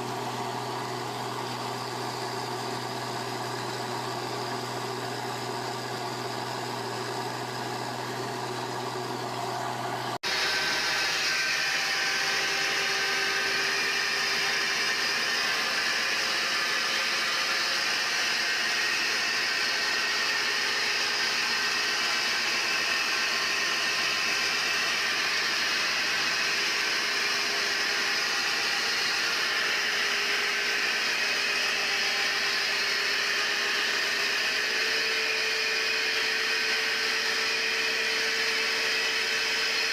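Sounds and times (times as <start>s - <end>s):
machine running: 0.0s - 39.9s.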